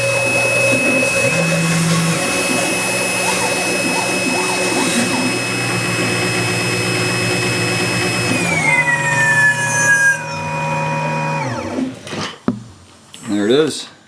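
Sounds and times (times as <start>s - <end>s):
stepper motors stepping tones: 0.0s - 12.0s
spindle motor whining: 0.0s - 12.1s.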